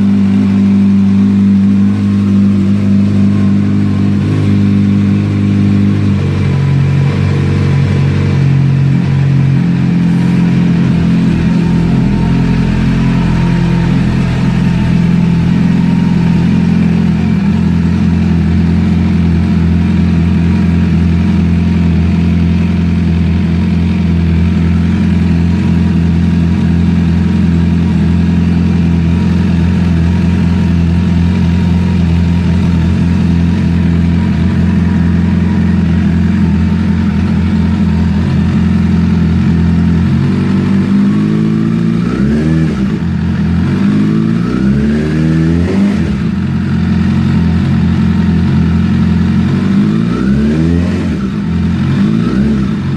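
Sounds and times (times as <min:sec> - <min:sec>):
engine clatter: 0:00.0 - 0:52.9
motorcycle engine idling: 0:00.0 - 0:52.9.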